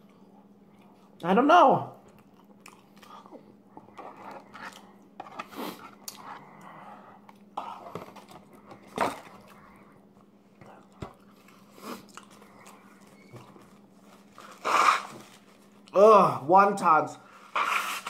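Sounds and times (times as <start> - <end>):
person chewing food: 0.0 - 1.2, 1.9 - 16.0
faint steady hum: 0.0 - 18.0.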